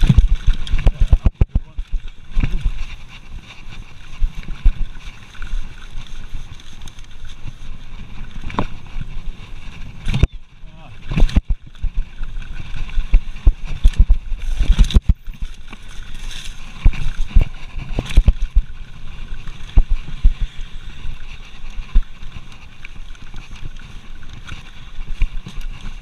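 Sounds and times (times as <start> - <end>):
bike rattling and thudding: 0.0 - 26.0
bike tyres rumbling on dirt: 0.0 - 26.0.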